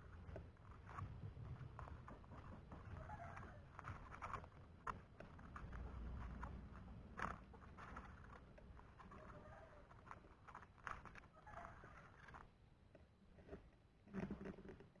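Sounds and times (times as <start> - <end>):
faint knocks and clicks: 0.0 - 11.3, 12.1 - 15.0.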